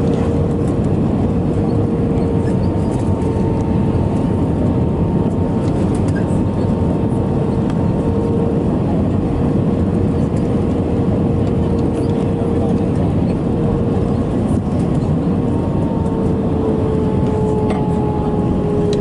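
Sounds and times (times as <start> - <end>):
airplane cabin engine rumble: 0.0 - 19.0
steady whine: 0.0 - 19.0.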